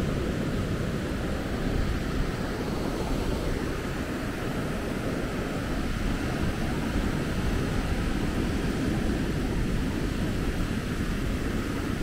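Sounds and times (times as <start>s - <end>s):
ocean surf: 0.0s - 12.0s
wind on microphone: 0.0s - 12.0s.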